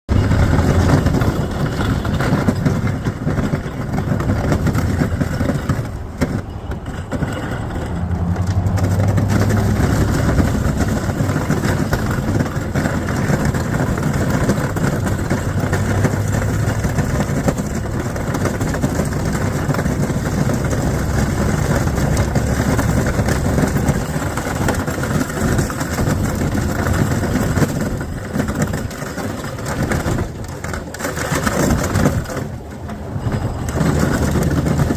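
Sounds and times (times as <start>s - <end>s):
plow blade scraping snow: 0.1s - 34.9s
truck engine running hard: 0.1s - 34.9s.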